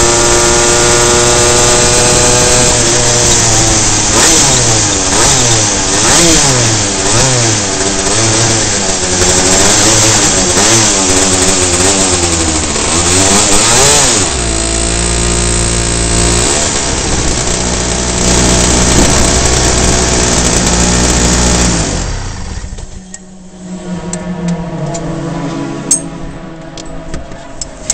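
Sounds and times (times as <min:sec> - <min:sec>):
two-stroke kart engine revving: 0:00.0 - 0:27.9.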